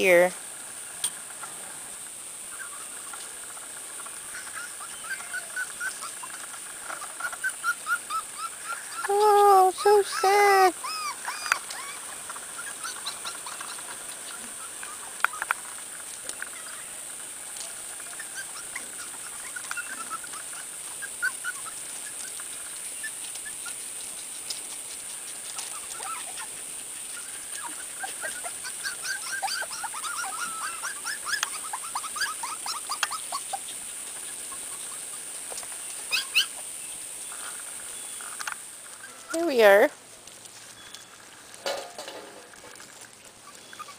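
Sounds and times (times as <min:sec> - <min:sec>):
puppies whimpering and yipping: 0:02.5 - 0:03.2, 0:04.1 - 0:36.8, 0:38.9 - 0:39.8, 0:42.9 - 0:43.9.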